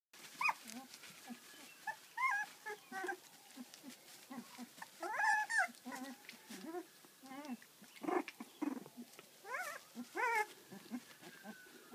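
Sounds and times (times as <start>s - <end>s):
puppies whimpering: 0.2s - 11.9s
puppies grunting: 0.3s - 11.9s.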